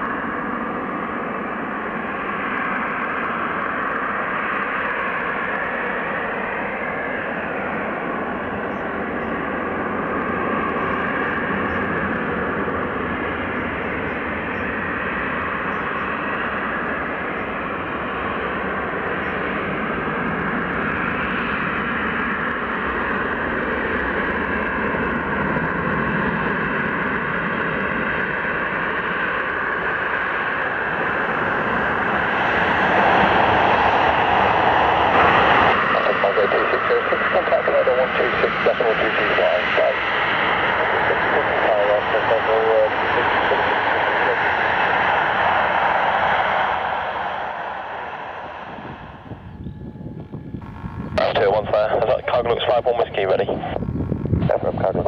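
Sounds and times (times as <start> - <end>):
jet airliner engines running: 0.0 - 55.0.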